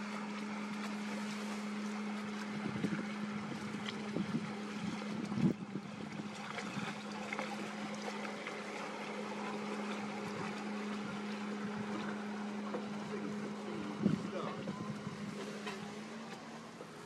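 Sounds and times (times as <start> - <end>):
boat engine humming: 0.0 - 17.0
wind: 0.0 - 17.0.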